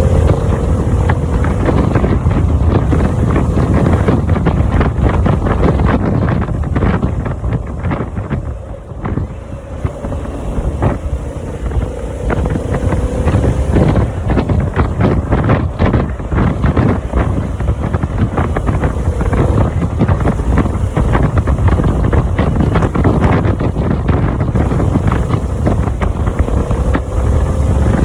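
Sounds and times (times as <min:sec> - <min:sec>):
faint motorcycle hum: 0:00.0 - 0:28.0
wind buffeting microphone: 0:00.0 - 0:28.0.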